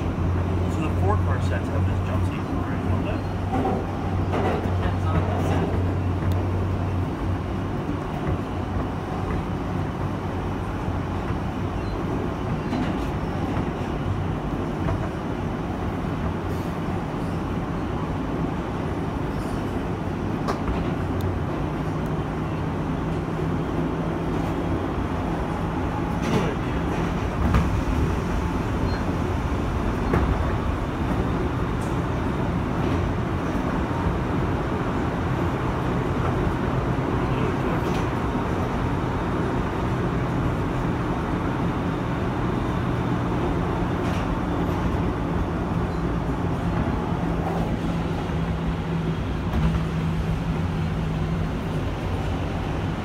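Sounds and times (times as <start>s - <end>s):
subway car wheels rumbling on rail: 0.0s - 53.0s.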